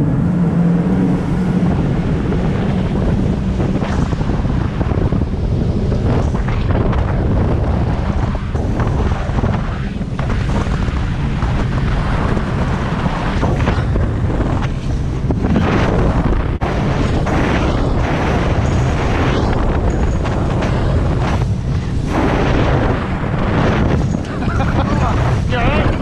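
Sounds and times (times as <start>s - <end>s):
boat motor: 0.0s - 26.0s
wind buffeting microphone: 0.0s - 26.0s.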